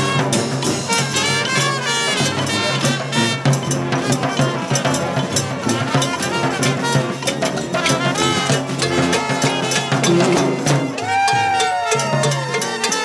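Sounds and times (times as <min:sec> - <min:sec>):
brass band playing lively tune: 0:00.0 - 0:13.0
percussion steady beat: 0:00.0 - 0:13.0.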